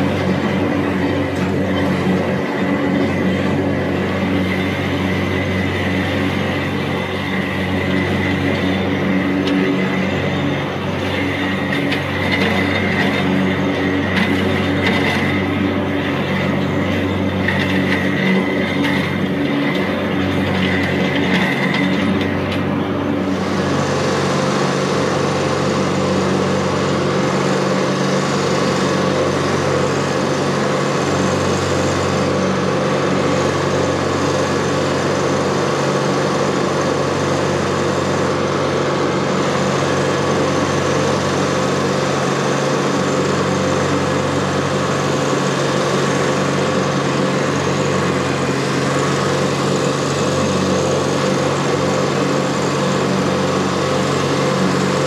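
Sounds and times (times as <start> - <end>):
mower blades whirring: 0.0 - 55.0
tractor diesel engine running: 0.0 - 55.0.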